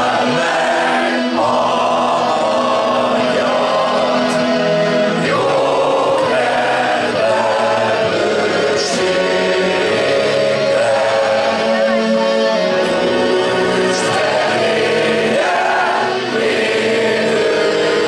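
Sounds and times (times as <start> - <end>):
crowd singing along: 0.0 - 18.0
keyboard: 0.0 - 18.0.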